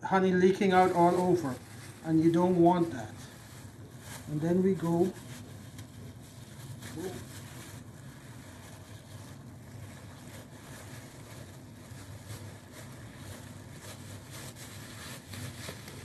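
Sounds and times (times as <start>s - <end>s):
steady low hum: 0.0s - 16.0s
soft handling sounds: 0.4s - 16.0s.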